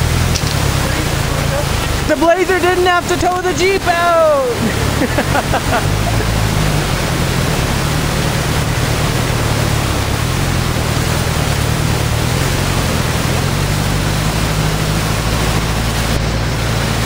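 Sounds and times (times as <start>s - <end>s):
engines idling: 0.0s - 17.0s.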